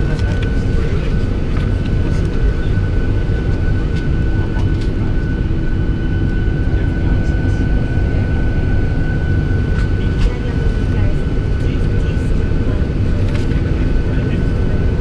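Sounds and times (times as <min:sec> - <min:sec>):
airplane cabin low rumble: 0:00.0 - 0:15.0
high steady whine: 0:00.0 - 0:15.0.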